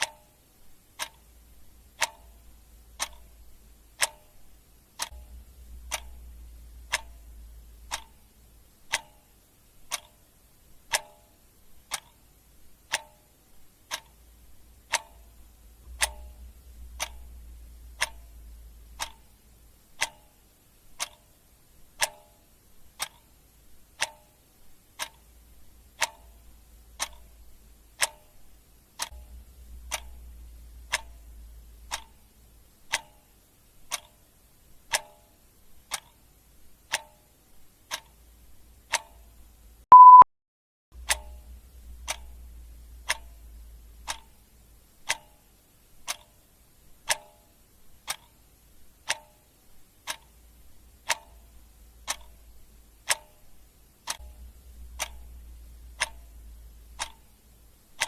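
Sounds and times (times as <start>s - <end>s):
clock ticking: 0.0s - 40.2s, 41.0s - 58.0s
faint low hum: 0.0s - 40.2s, 41.0s - 58.0s.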